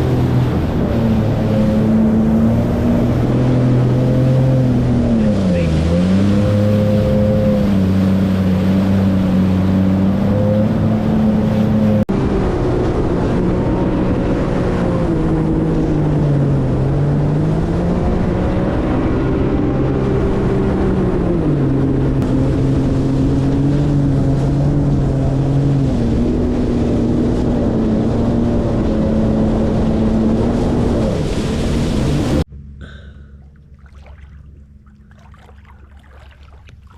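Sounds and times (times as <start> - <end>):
jet ski engine revving: 0.0 - 36.9
rushing water: 0.0 - 36.9
wind: 0.0 - 36.9.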